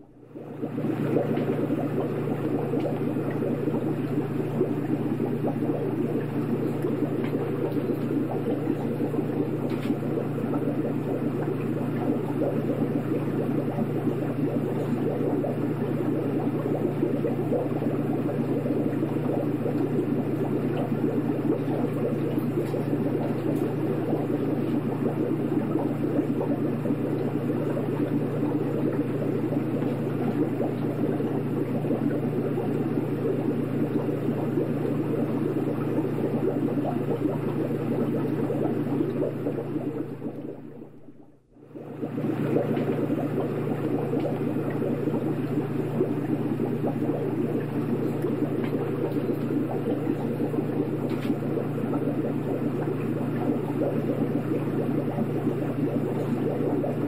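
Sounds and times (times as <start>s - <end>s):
aquarium water bubbling: 0.0s - 57.0s
pump low hum: 0.0s - 57.0s.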